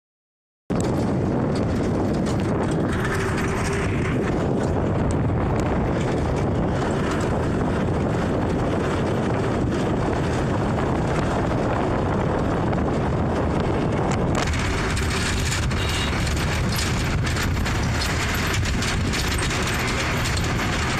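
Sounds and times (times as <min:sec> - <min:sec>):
wind and road noise roar: 0:00.7 - 0:20.9
vehicle driving in heavy rain: 0:02.9 - 0:20.9.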